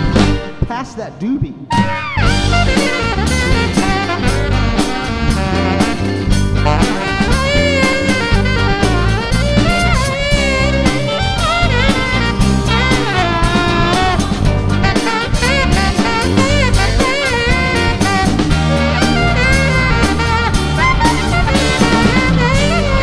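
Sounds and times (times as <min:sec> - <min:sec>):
electric guitar: 0:00.0 - 0:00.7, 0:01.7 - 0:23.0
electric bass: 0:00.0 - 0:23.0
rock drum kit: 0:00.0 - 0:23.0
saxophone solo: 0:01.7 - 0:23.0.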